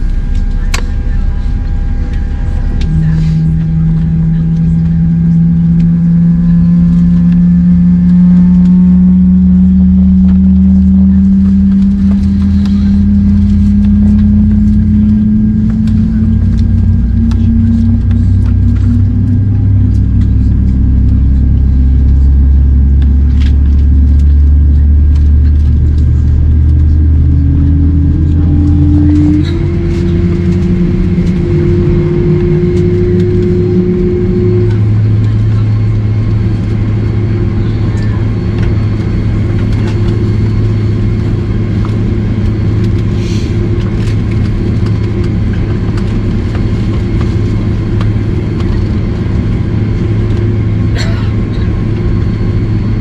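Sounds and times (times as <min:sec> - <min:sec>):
engine running loudly: 0:00.0 - 0:53.0
heavy low rumble: 0:00.0 - 0:53.0.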